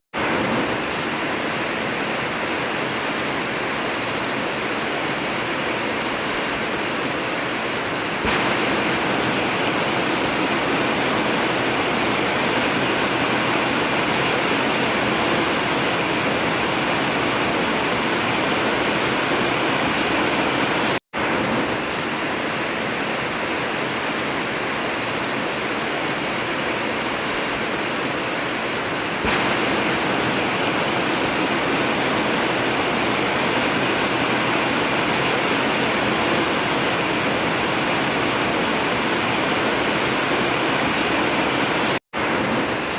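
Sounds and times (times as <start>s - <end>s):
heavy rain on a tin roof: 0.1s - 42.9s.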